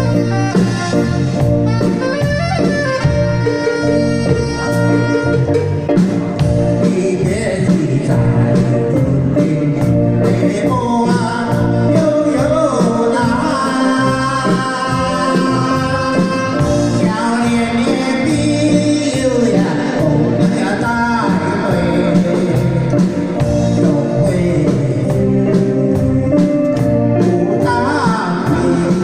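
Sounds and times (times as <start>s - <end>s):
backing band with steady beat: 0.0s - 29.0s
person singing: 0.0s - 29.0s.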